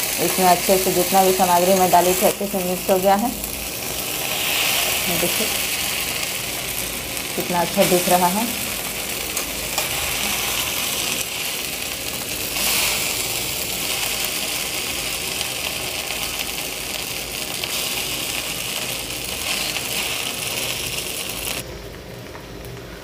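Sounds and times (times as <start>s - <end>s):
noodles sizzling in a pan: 0.0s - 23.0s.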